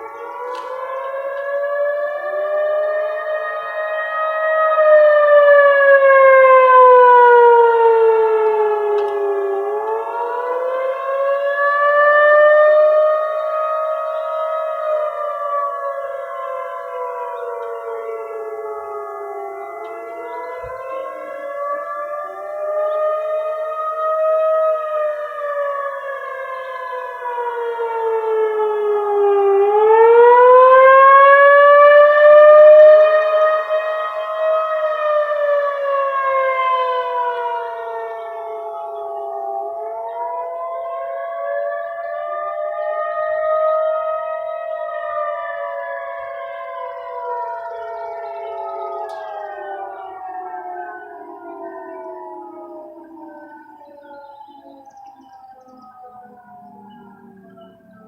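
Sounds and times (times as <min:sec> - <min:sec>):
siren wailing: 0:00.0 - 0:58.0
steady siren tone: 0:00.0 - 0:58.0.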